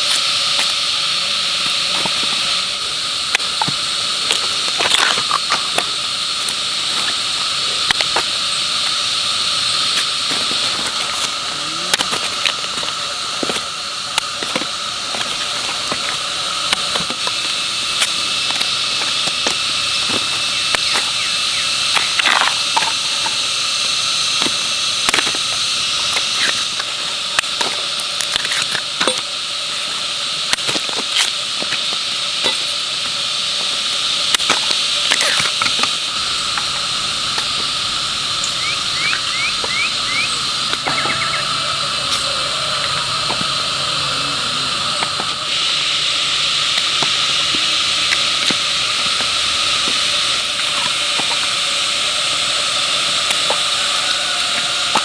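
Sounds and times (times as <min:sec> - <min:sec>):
high-pitched hiss with drone tone: 0:00.0 - 0:55.0.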